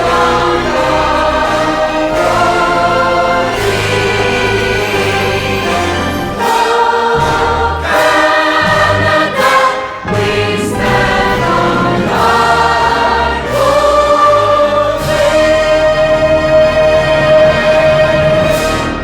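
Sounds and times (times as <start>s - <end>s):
choir singing long held notes: 0.0s - 19.0s.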